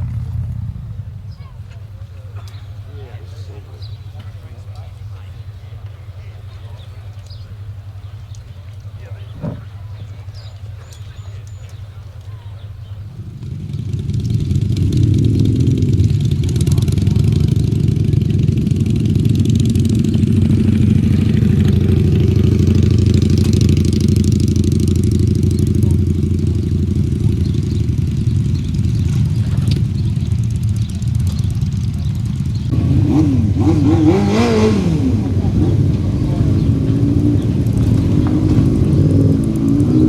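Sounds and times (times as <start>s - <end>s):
motorcycle engine running loudly: 0.0s - 40.0s.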